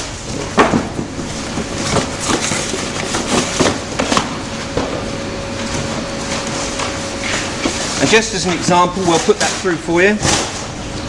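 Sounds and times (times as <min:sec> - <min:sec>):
faint steady hum: 0:00.0 - 0:11.0
cardboard rustling and scraping: 0:00.3 - 0:10.7.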